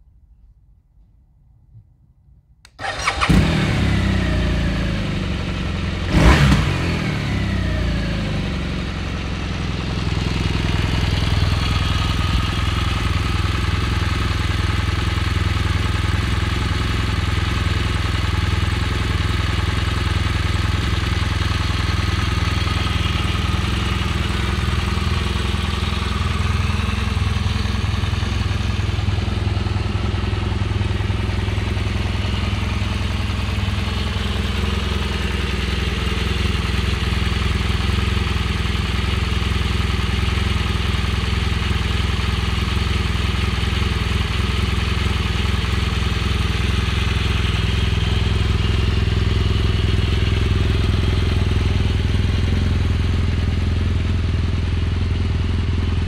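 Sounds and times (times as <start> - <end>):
motorcycle engine starting and revving: 2.7 - 56.0.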